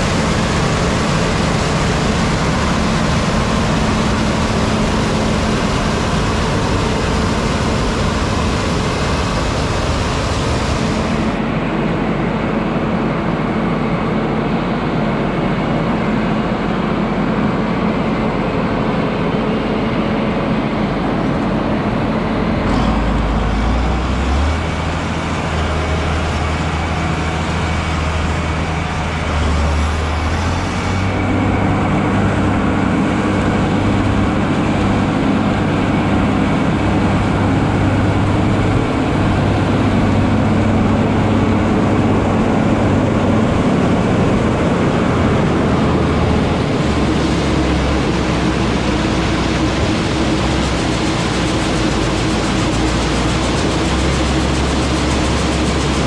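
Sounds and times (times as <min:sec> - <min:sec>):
diesel farm machinery running: 0:00.0 - 0:56.0.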